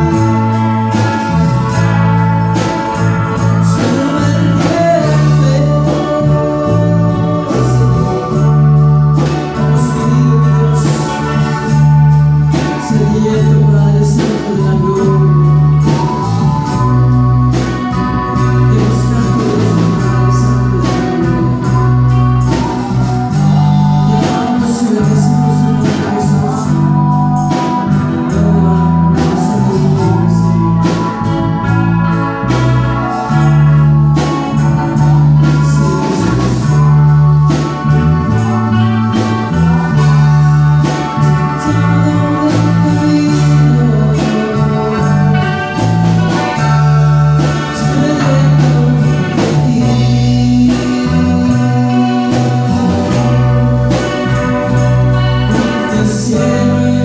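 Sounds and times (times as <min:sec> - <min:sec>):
person singing: 0:00.0 - 0:57.0
worship band playing: 0:00.0 - 0:57.0.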